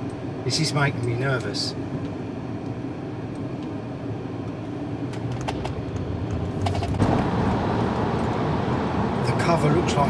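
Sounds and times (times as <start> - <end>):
car cabin road and engine noise: 0.0 - 10.0.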